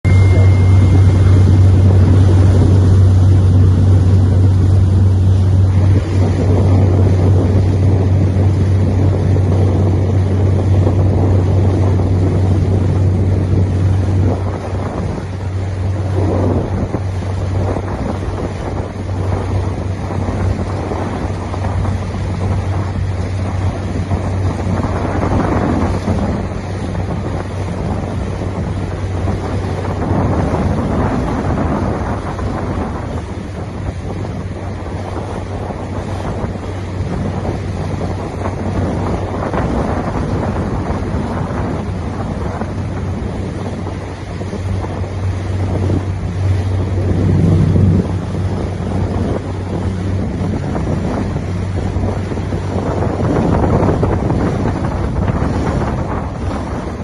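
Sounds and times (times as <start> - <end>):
steady low hum: 0.0 - 16.9, 27.8 - 57.0
wind buffeting microphone: 0.0 - 57.0.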